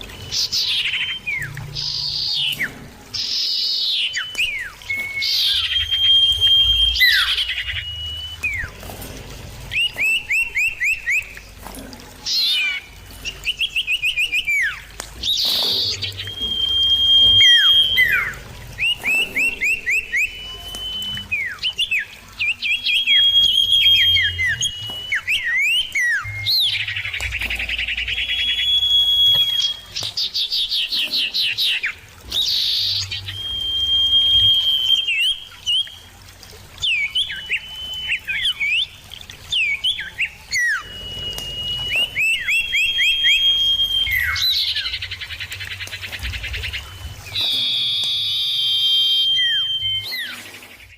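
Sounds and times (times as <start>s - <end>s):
down-slurred bird whistles: 0.0s - 8.8s, 9.7s - 11.4s, 12.3s - 30.2s, 31.4s - 36.1s, 36.8s - 45.6s, 46.2s - 50.9s
long high bird whistles: 0.0s - 8.8s, 12.3s - 30.1s, 31.8s - 36.1s, 36.8s - 45.5s, 46.3s - 50.9s.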